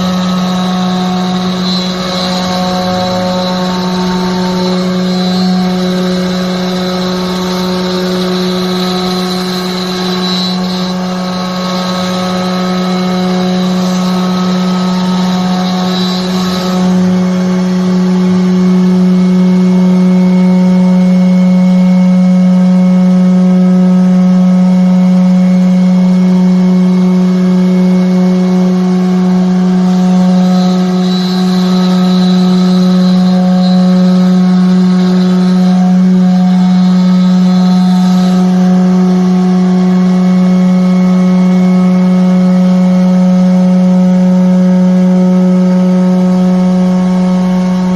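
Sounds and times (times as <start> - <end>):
router spindle cutting wood: 0.0 - 47.9.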